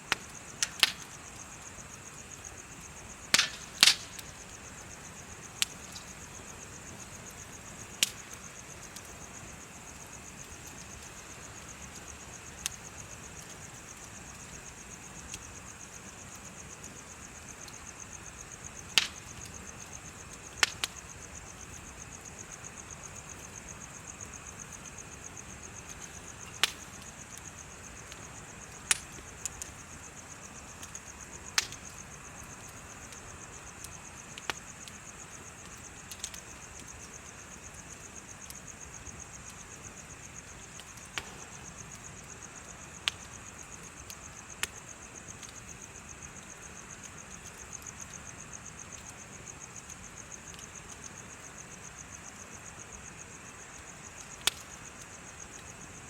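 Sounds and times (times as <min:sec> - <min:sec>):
sharp pops from fire: 0:00.0 - 0:52.3, 0:53.7 - 0:55.8
bonfire crackling: 0:00.0 - 0:56.0
insects trilling: 0:00.0 - 0:56.0.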